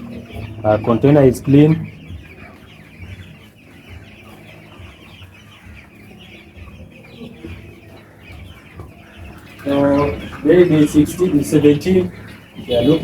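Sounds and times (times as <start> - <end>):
chicks chirping and peeping: 0.0 - 13.0.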